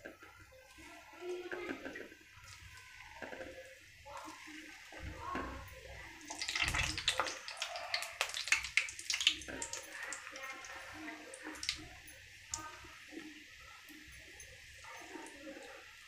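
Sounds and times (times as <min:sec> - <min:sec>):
dough frying in hot oil: 0:00.0 - 0:16.0.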